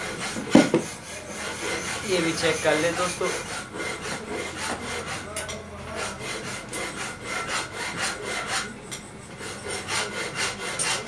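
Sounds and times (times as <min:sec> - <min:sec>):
hand tool rasping: 0:00.0 - 0:11.0.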